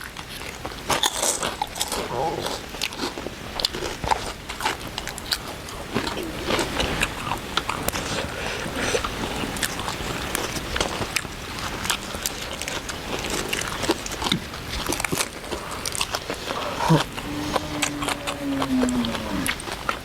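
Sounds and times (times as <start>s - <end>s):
crisp clicks and crackles: 0.0s - 20.0s
people chewing and biting: 0.0s - 20.0s.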